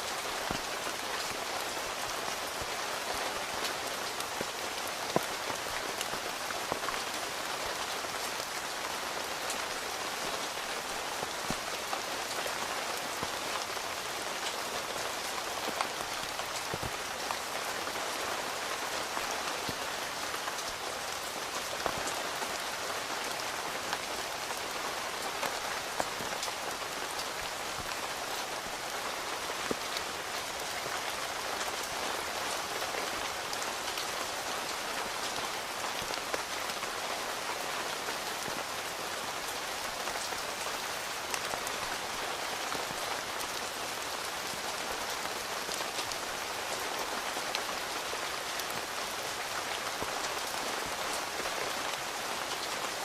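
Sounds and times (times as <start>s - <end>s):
rain patter on tent: 0.0s - 53.0s.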